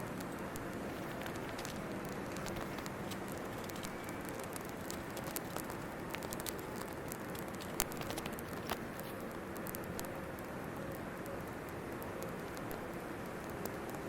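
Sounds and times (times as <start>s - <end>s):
campfire crackling: 0.0s - 14.0s
sharp fire pops: 0.1s - 14.0s.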